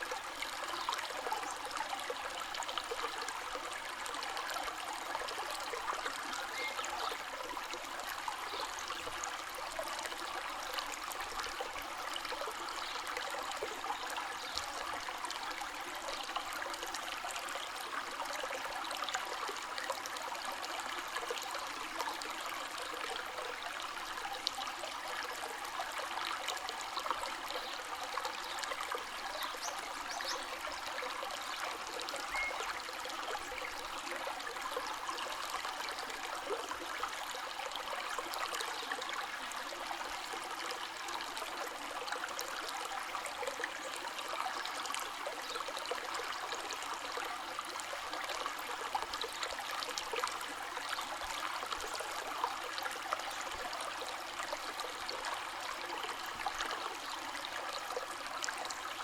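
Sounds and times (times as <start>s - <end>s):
stream flowing over stones: 0.0s - 59.0s.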